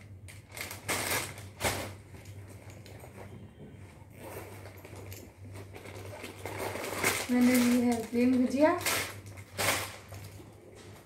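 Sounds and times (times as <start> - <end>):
plastic packets crinkling: 0.1 - 3.1, 4.2 - 11.0.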